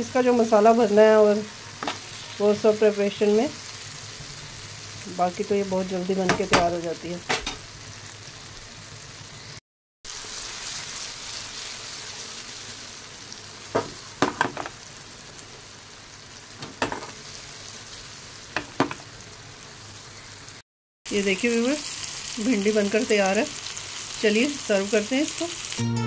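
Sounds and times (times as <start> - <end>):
okra sizzling in oil: 0.0 - 25.8.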